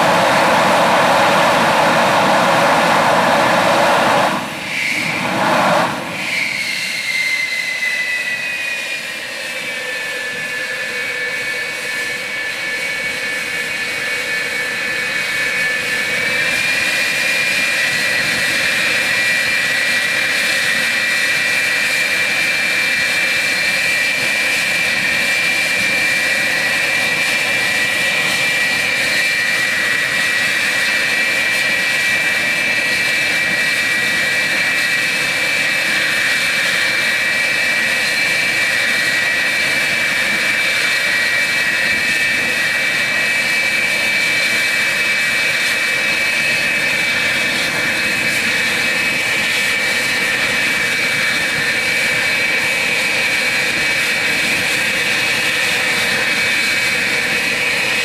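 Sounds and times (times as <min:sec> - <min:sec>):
jet engines idling with whine: 0:00.0 - 0:58.0.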